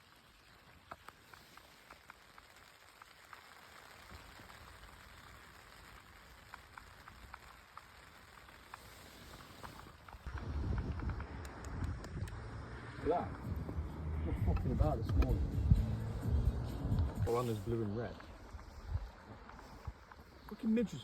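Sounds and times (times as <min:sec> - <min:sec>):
light rain hiss: 0:00.0 - 0:21.0
raindrops ticking: 0:00.0 - 0:21.0.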